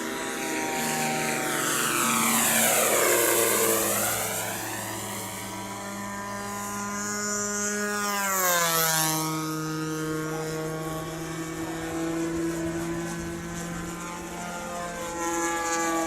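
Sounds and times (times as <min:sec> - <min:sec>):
model plane engine drone: 0:00.0 - 0:16.0.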